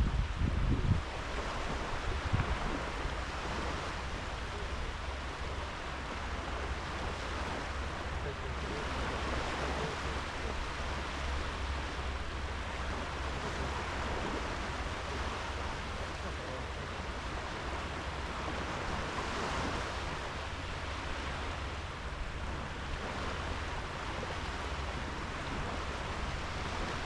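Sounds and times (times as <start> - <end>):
small waves washing onto sand: 0.0 - 27.0.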